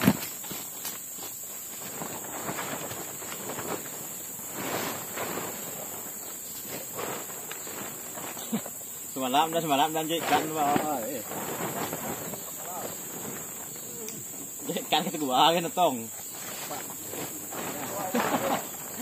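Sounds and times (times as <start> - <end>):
footsteps on forest floor: 0.0 - 19.0
high-pitched insect drone: 0.0 - 19.0.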